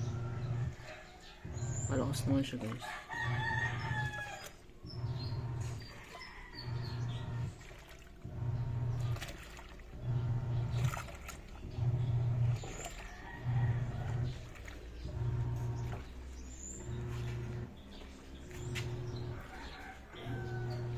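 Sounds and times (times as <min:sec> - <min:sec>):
birds chirping faintly: 0:00.0 - 0:20.9
washing machine agitating: 0:00.0 - 0:20.9.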